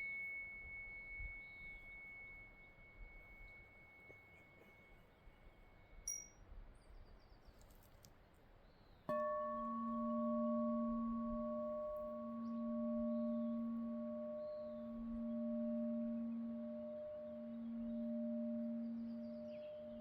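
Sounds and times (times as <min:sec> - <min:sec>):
singing bowl ringing: 0:00.0 - 0:06.4, 0:09.1 - 0:20.0
faint high ringing tone: 0:00.0 - 0:07.2, 0:09.1 - 0:20.0.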